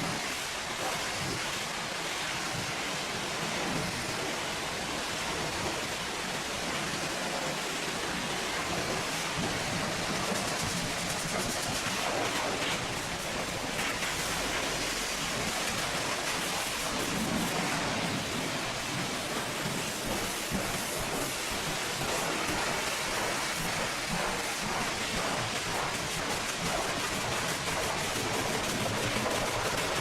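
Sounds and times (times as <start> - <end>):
pressure water spray on truck: 0.0 - 30.0.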